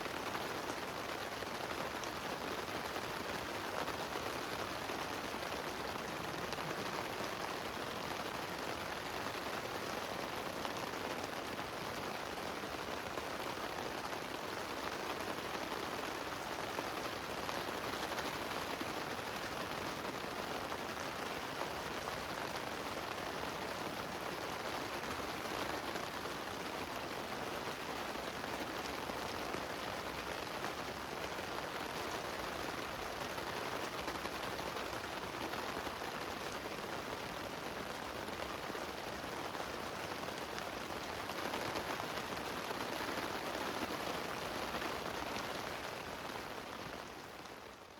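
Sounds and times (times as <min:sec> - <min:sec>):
heavy rain on a tent: 0:00.0 - 0:47.9.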